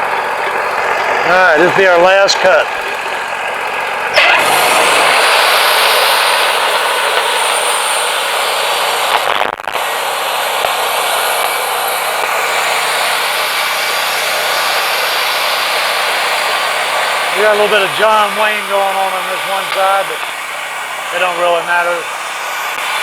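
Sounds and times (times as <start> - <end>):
band saw blade cutting log: 0.0 - 23.0
sawmill running: 0.0 - 23.0.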